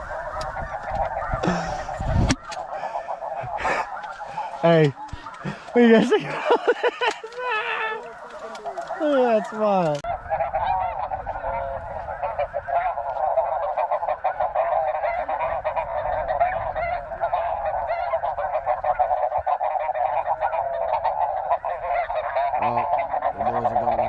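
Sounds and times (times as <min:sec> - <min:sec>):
flock of geese honking: 0:00.0 - 0:24.0.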